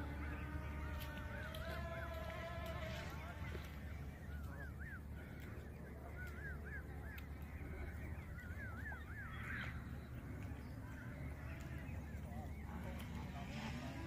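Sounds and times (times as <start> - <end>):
geese honking: 0.0 - 14.0
steady low rumble: 0.0 - 14.0.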